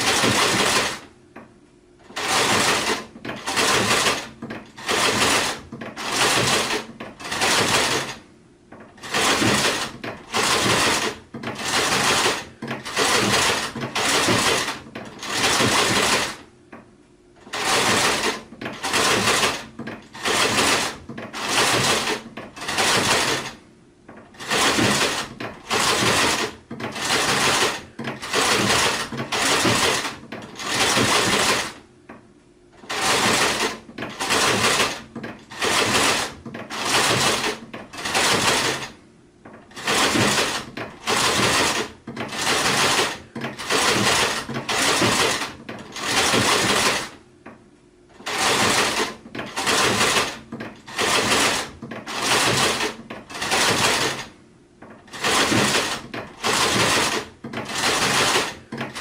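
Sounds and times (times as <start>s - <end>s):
sewing machine stitching: 0.0s - 1.1s, 2.0s - 16.5s, 17.4s - 31.9s, 32.8s - 47.2s, 48.1s - 59.0s.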